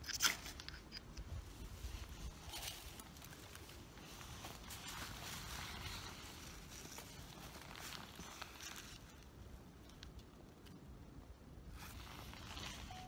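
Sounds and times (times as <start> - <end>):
rustling of dry twigs and leaves: 0.0 - 13.0.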